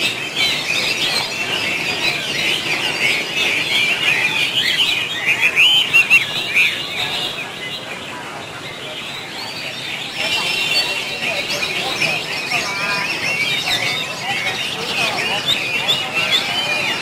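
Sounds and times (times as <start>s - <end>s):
songbirds chirping and warbling: 0.0s - 17.0s.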